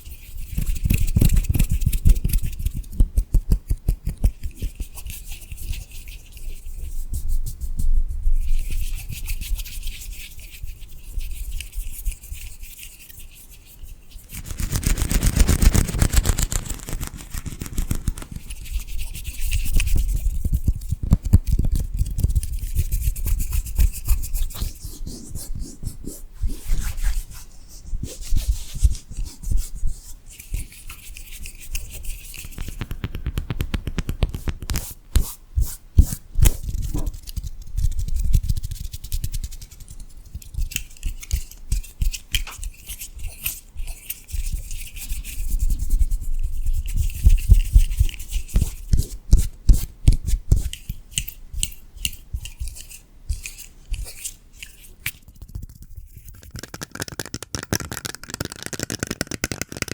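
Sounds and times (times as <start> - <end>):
scratching and brushing strokes: 4.2 - 56.7.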